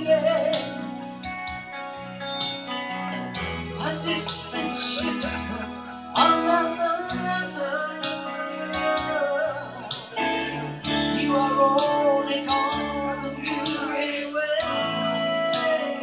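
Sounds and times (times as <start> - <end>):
woman singing into microphone: 0.0 - 1.2, 3.6 - 16.0
guitar accompaniment: 0.0 - 16.0.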